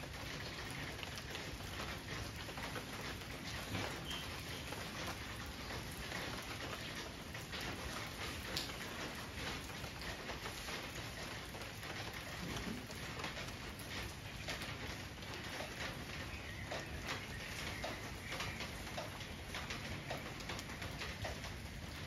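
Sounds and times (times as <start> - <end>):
rain on foliage: 0.0 - 22.0.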